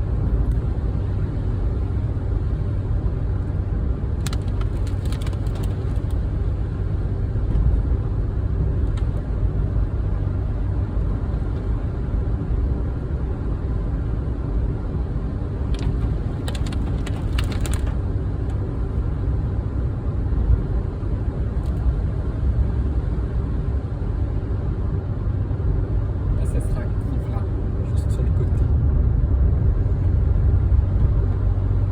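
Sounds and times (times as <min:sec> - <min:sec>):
car driving rumble: 0:00.0 - 0:31.9.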